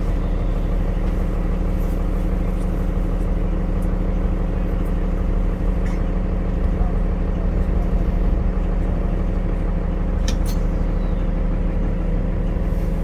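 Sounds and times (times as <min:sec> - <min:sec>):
diesel bus engine running: 0:00.0 - 0:13.0
low road rumble: 0:00.0 - 0:13.0.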